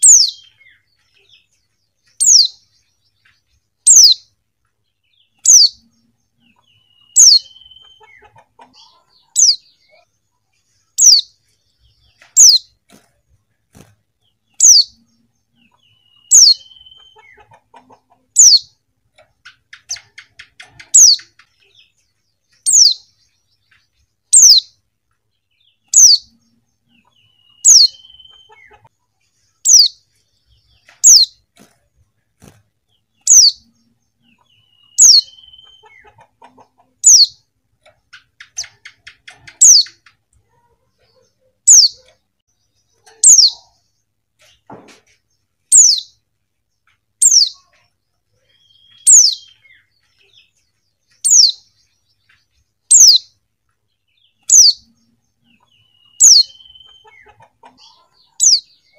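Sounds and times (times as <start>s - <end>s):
soft bird twittering: 0.0s - 12.9s, 14.2s - 24.8s, 25.6s - 31.6s, 32.9s - 46.2s, 46.8s - 58.9s.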